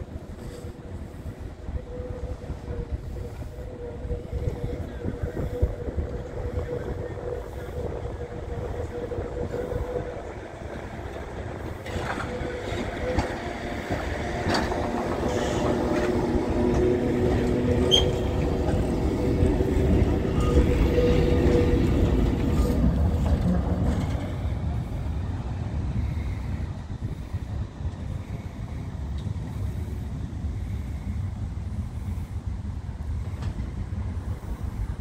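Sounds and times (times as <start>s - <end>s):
steady whining tone: 0.0s - 35.0s
tram running over rails: 0.0s - 35.0s.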